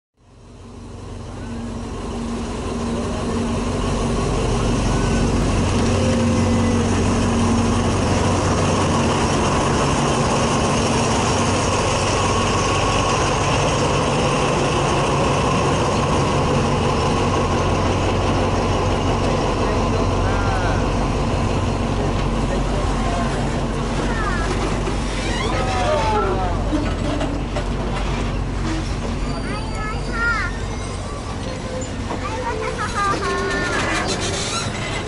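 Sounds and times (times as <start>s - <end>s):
diesel locomotive engine humming: 0.2s - 35.0s
train coaches rolling on track: 0.2s - 35.0s.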